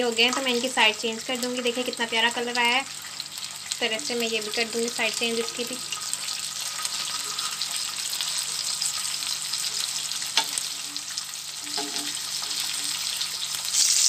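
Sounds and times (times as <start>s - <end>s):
patties sizzling on a griddle: 0.0s - 14.0s.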